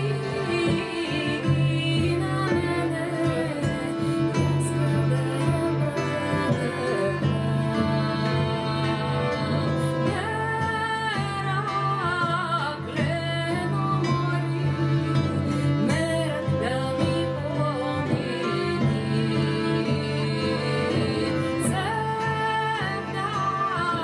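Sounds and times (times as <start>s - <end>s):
guitar: 0.0s - 24.0s
violins: 0.0s - 24.0s
woman singing: 0.0s - 24.0s.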